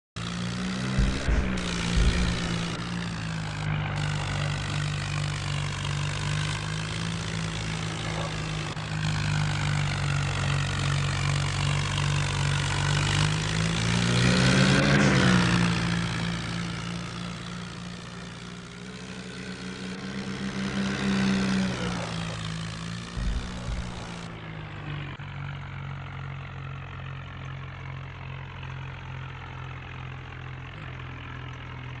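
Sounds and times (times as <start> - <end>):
tractor diesel engine running: 0.2 - 32.0.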